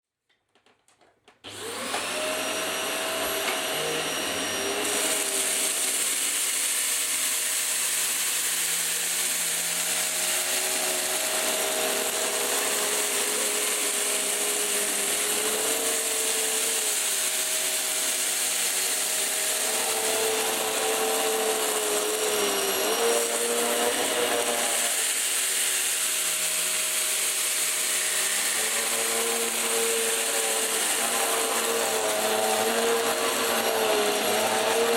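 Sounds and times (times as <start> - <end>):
vacuum cleaner running: 1.4 - 34.9.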